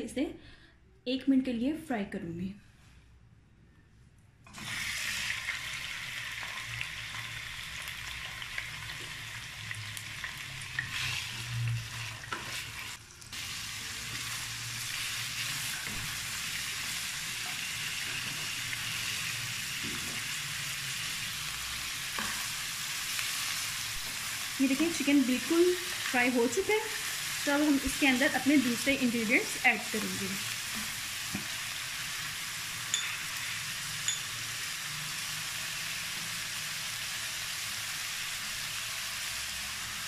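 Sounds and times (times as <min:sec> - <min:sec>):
chicken sizzling in a frying pan: 0:04.6 - 0:40.0.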